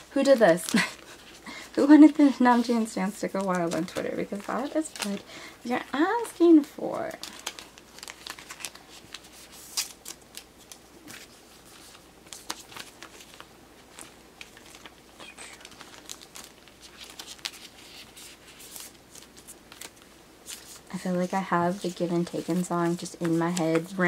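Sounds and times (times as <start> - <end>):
plastic sleeves crinkling: 0.0 - 24.0.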